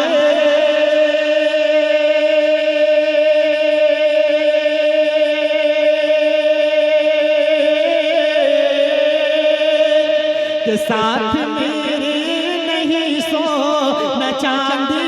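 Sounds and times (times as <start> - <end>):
person singing long note: 0.0 - 15.0.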